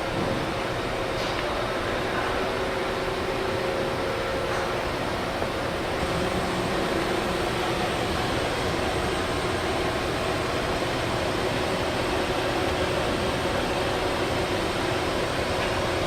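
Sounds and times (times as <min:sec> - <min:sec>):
machine hum and whir: 0:00.0 - 0:16.0.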